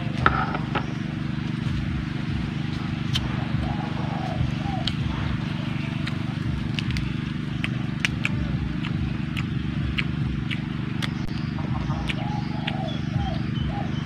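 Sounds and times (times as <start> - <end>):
low hum: 0.0 - 14.0
crunchy chewing: 1.5 - 13.3.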